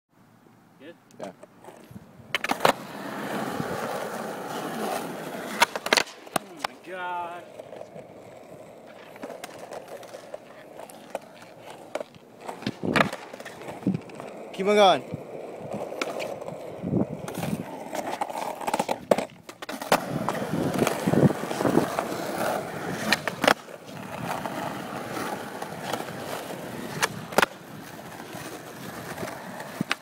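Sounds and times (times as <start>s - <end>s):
skateboard tail popping cracks: 1.2s - 6.8s, 7.5s - 30.0s
skateboard wheels rolling on asphalt: 1.2s - 30.0s.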